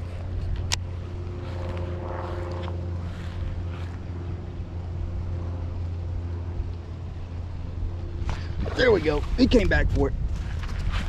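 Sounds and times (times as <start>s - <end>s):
distant motor drone: 0.0s - 11.0s.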